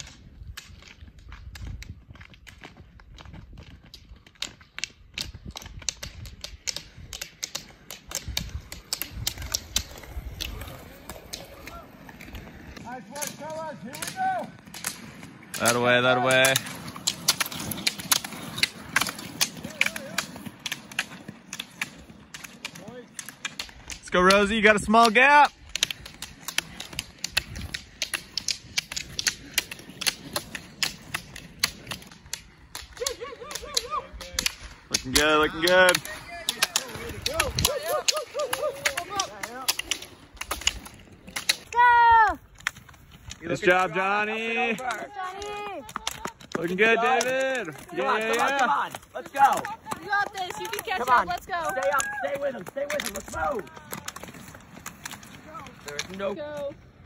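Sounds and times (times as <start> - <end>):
ski pole tips striking asphalt: 0.0 - 56.8.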